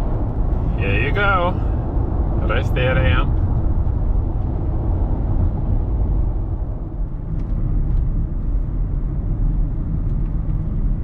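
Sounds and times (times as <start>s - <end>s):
car interior road noise: 0.0s - 11.0s.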